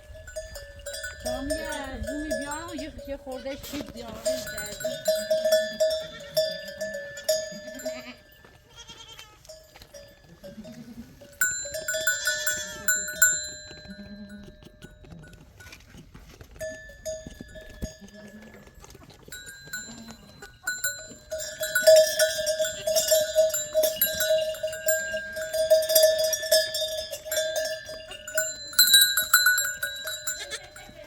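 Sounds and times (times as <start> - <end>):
animal bells clanking and jingling: 0.0 - 31.0.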